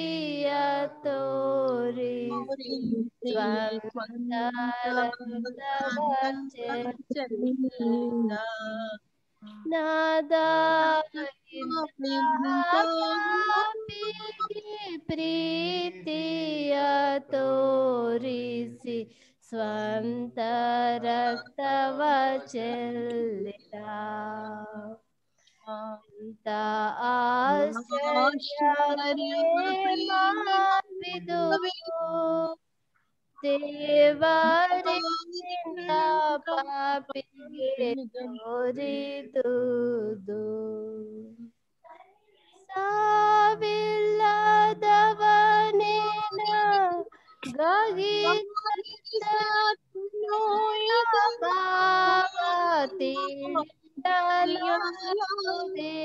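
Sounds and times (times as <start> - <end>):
person singing a hymn: 0.0 - 8.9, 9.5 - 25.0, 25.8 - 32.6, 33.4 - 41.5, 42.7 - 56.0.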